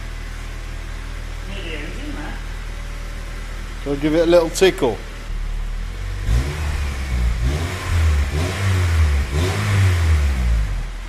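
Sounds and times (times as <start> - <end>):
car engine revving over idle: 0.0 - 11.0.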